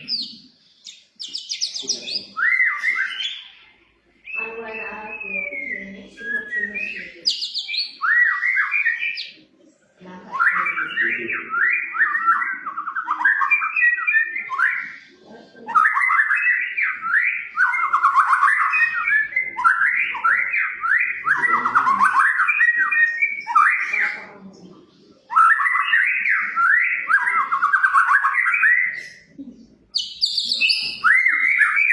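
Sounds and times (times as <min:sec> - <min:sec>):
bird singing whistled phrases: 0:00.0 - 0:03.6, 0:04.2 - 0:09.4, 0:10.3 - 0:15.0, 0:15.7 - 0:24.2, 0:25.3 - 0:29.3, 0:29.9 - 0:31.9.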